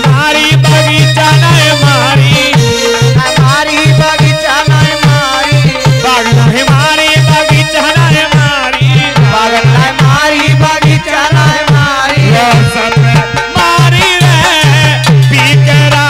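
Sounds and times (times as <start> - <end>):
fast hand-drum beat: 0.0 - 16.0.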